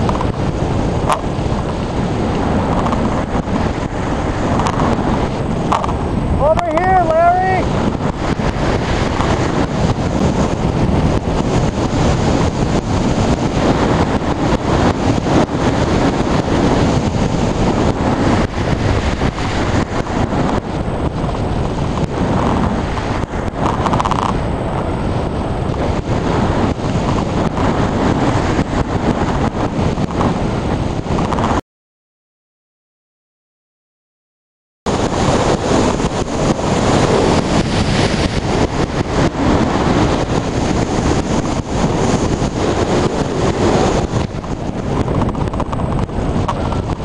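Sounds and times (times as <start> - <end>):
wind buffeting microphone: 0.0 - 31.6, 34.9 - 47.0.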